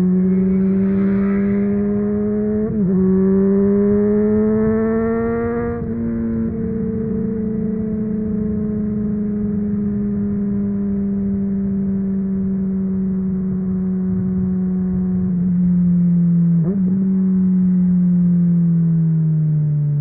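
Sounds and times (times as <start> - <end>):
motorcycle engine at high revs: 0.0 - 17.2.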